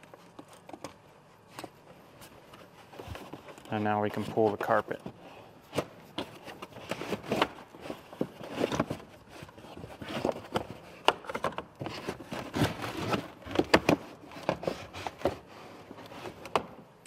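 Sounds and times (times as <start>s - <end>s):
carpet and plastic trim rustling: 0.0s - 17.0s.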